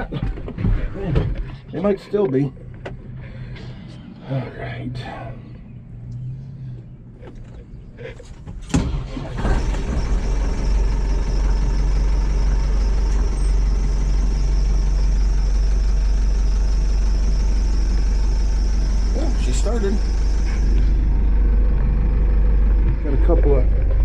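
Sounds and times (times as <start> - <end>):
tractor engine cranking and idling: 0.0 - 24.0.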